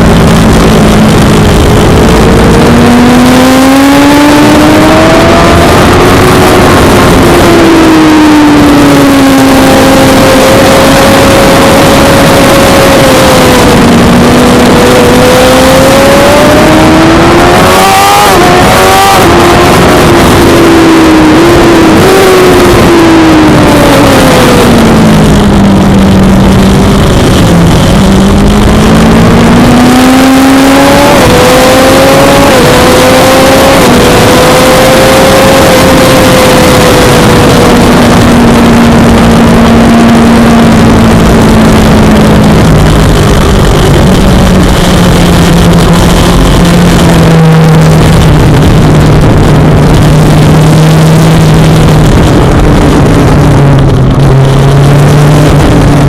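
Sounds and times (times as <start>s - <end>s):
heavy wind rush: 0.0s - 56.0s
motorcycle engine at racing speed: 0.0s - 56.0s.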